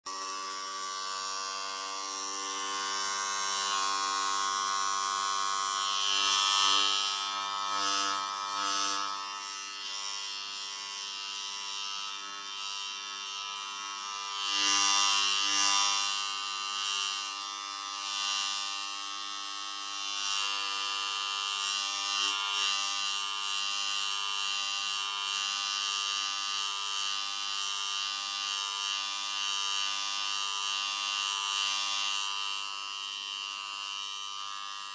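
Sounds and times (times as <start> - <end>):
electric hair clippers buzzing: 0.0 - 34.9.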